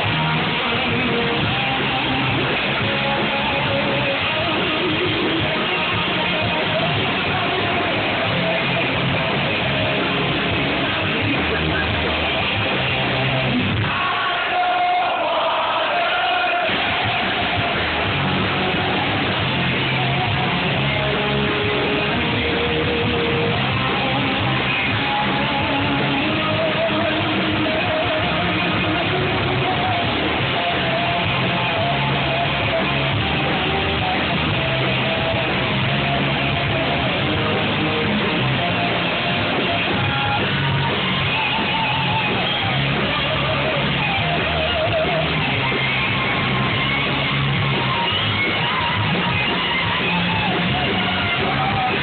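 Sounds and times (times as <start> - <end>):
repeating bass line: 0.0 - 14.1, 16.6 - 52.0
electric guitars: 0.0 - 52.0.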